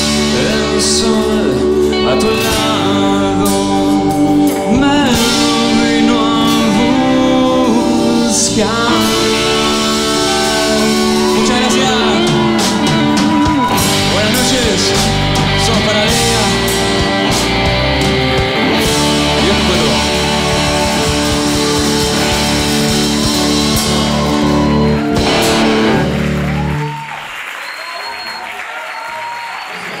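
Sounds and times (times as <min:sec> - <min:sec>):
live rock band playing: 0:00.0 - 0:27.1.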